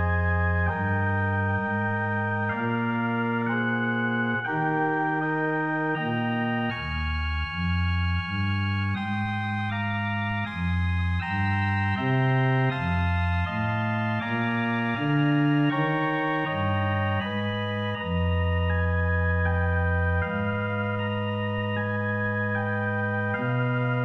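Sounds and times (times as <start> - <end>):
low organ pedal notes: 0.0 - 24.0
organ playing soft chords: 0.0 - 24.0.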